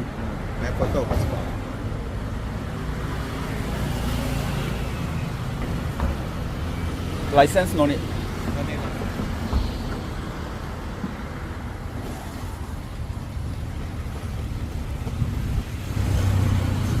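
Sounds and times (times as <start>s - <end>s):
low rumble of passing vehicles: 0.0s - 17.0s
vehicle engine: 0.0s - 17.0s.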